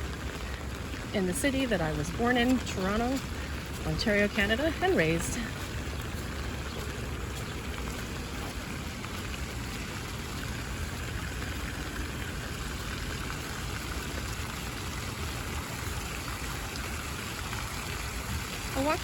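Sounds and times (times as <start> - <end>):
rain falling: 0.0 - 19.0
water fountain splashing: 0.0 - 19.0.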